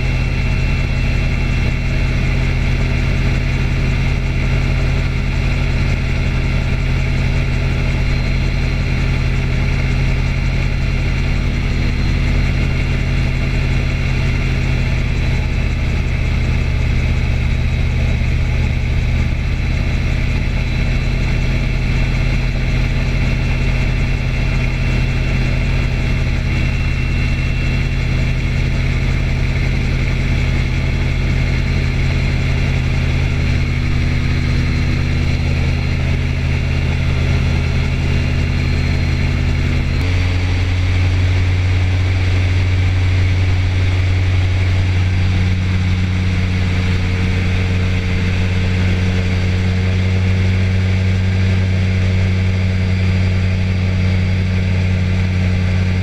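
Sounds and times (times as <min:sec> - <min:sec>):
small aircraft engine running: 0:00.0 - 0:56.0.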